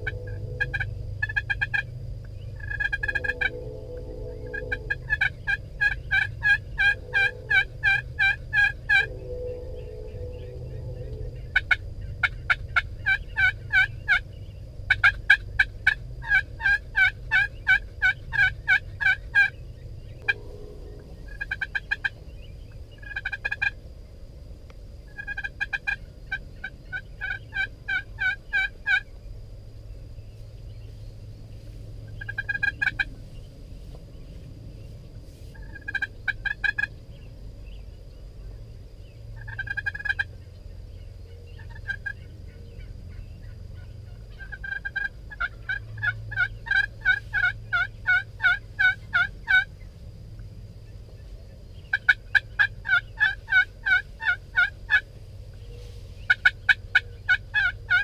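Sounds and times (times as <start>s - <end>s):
turkeys calling: 0.0s - 23.9s, 25.1s - 29.2s, 30.3s - 38.0s, 39.4s - 50.0s, 50.8s - 58.0s.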